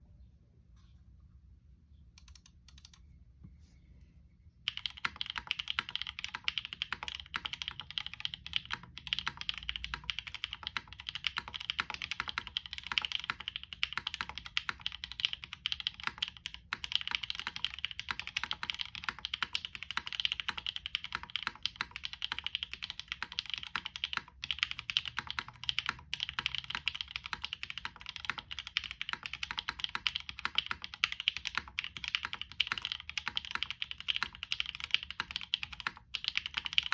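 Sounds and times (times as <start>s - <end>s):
mechanical keyboard typing: 2.2s - 3.0s, 4.7s - 36.9s.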